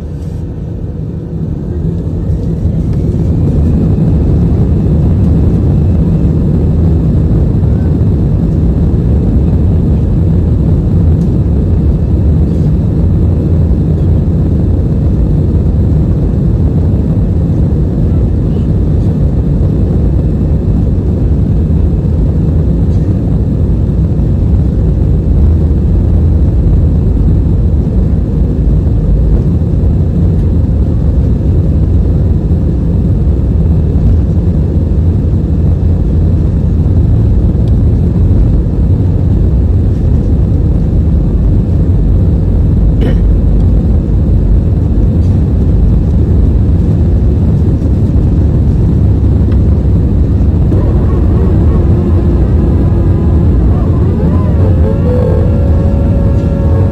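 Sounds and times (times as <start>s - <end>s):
jet engine rumble in cabin: 0.0s - 56.9s.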